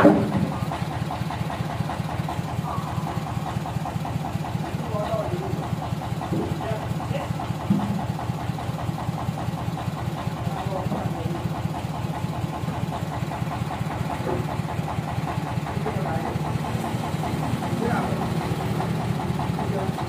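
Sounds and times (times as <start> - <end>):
engine idling with even chugging: 0.0 - 20.0.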